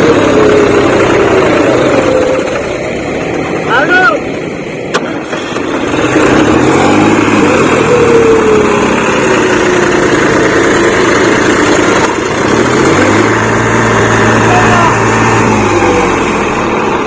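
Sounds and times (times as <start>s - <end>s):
tractor diesel engines running hard: 0.0s - 17.0s.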